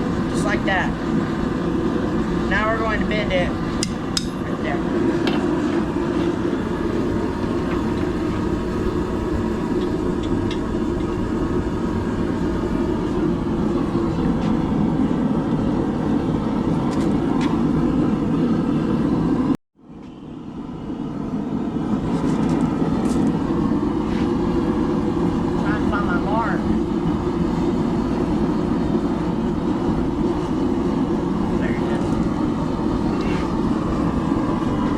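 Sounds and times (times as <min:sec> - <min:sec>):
forge roaring: 0:00.0 - 0:19.5, 0:20.4 - 0:34.9.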